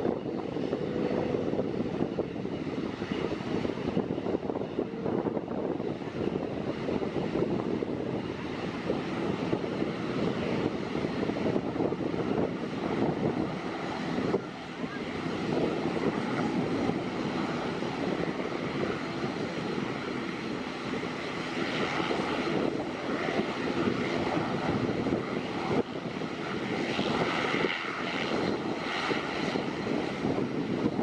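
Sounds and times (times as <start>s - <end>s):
turboprop engines droning: 0.0s - 31.0s.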